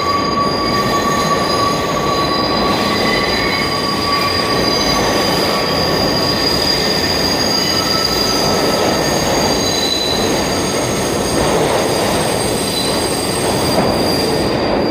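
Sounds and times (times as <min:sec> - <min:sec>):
steel wheels squealing: 0:00.0 - 0:14.9
subway train rumbling: 0:00.0 - 0:14.9.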